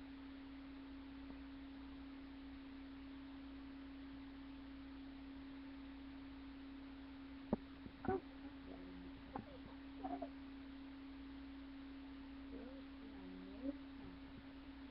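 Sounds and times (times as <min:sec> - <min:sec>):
faint electrical tone with hum: 0:00.0 - 0:14.9.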